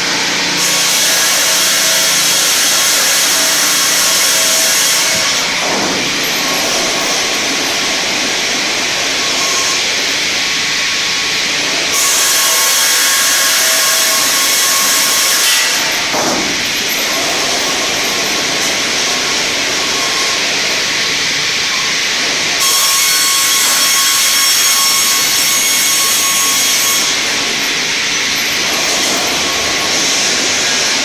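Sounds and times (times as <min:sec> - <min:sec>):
saw blades cutting wood: 0:00.0 - 0:31.0
sawmill machine drone: 0:00.0 - 0:31.0.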